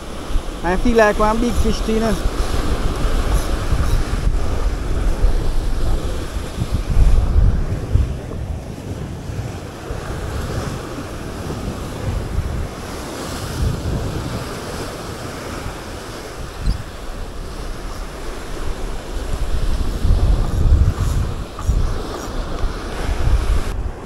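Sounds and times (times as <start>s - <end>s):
sea waves: 0.0s - 24.0s
wind gusting against microphone: 0.0s - 24.0s.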